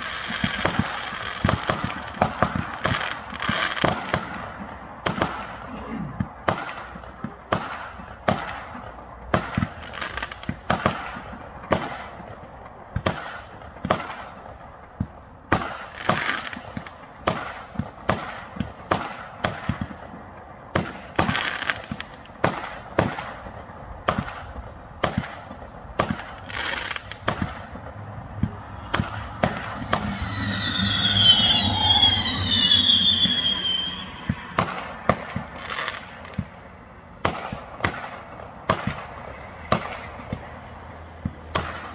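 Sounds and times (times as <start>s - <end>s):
fireworks bangs: 0.0s - 5.6s, 6.2s - 41.9s
whistling fireworks: 0.0s - 41.9s.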